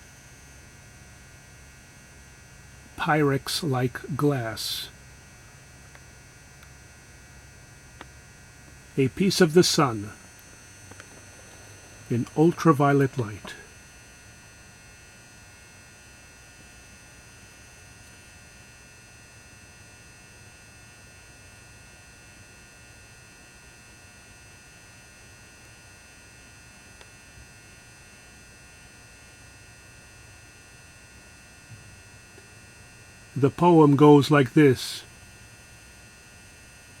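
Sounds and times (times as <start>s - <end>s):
lamp electrical hum and whine: 0.0s - 37.0s.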